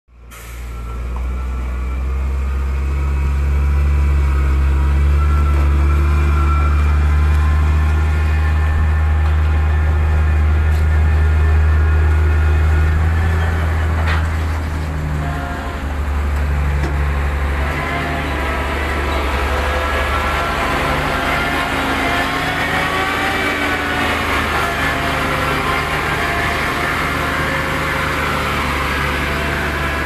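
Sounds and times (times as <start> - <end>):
truck diesel engine running low: 0.1 - 30.0.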